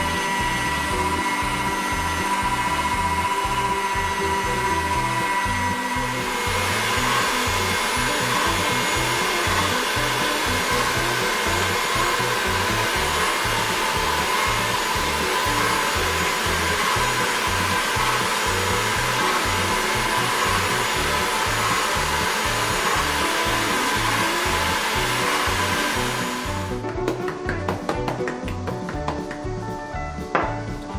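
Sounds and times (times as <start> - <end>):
pasta machine whirring: 0.0 - 26.9
background music with beat: 0.0 - 30.9.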